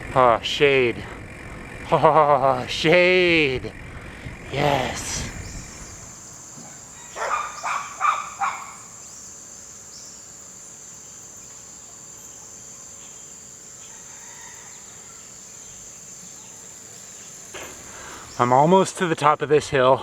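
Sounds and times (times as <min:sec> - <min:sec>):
insects trilling: 0:01.4 - 0:20.0.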